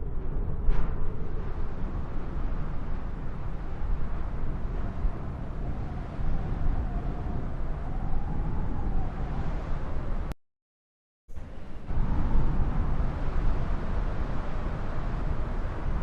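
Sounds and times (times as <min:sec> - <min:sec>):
wind buffeting microphone: 0:00.0 - 0:10.3, 0:11.3 - 0:16.0.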